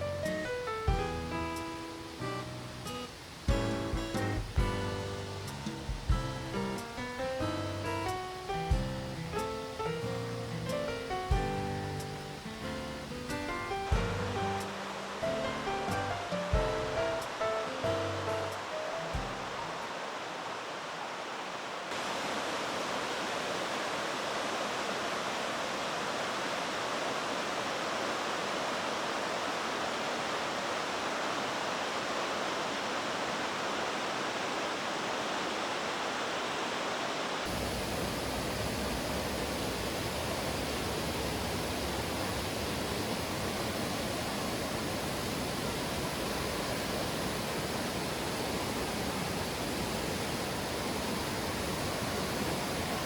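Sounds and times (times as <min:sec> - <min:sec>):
stream rushing over rocks: 0:00.0 - 0:07.3, 0:08.0 - 0:53.0.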